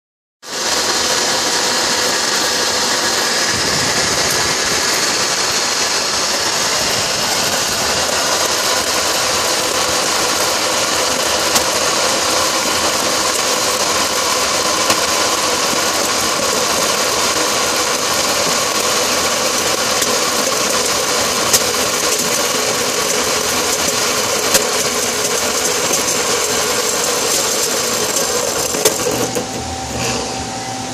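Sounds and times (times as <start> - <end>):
grain rattling in crusher: 0.4 - 30.1
drill motor whine: 0.5 - 30.9.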